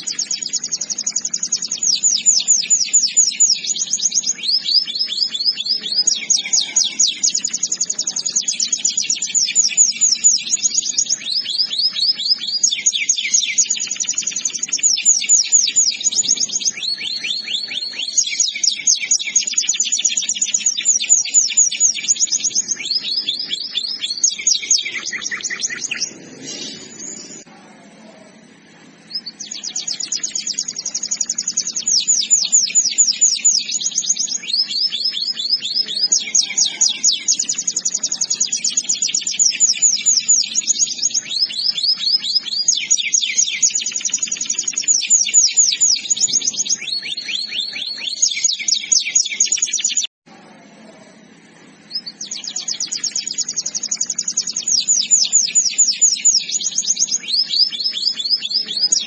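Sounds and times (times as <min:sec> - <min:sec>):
canary singing trills: 0:00.0 - 0:50.1, 0:51.1 - 0:59.0.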